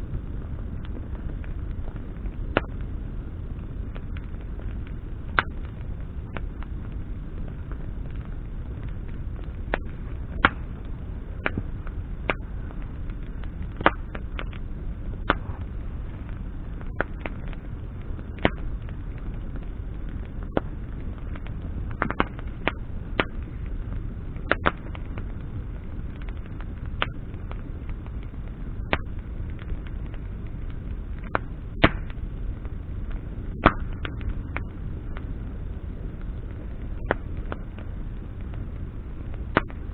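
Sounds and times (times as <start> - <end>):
campfire crackling and popping: 0.0 - 39.9
fire low rumble: 0.0 - 39.9.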